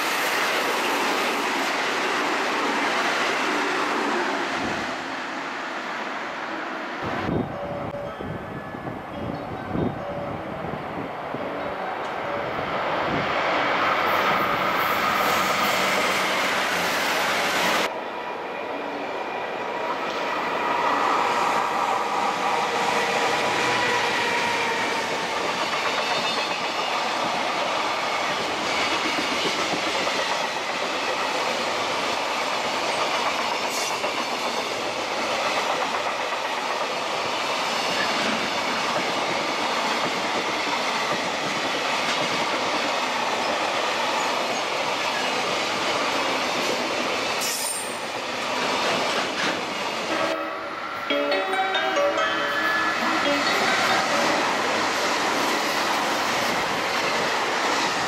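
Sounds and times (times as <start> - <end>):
freight train wheel and rail noise: 0.0 - 58.0.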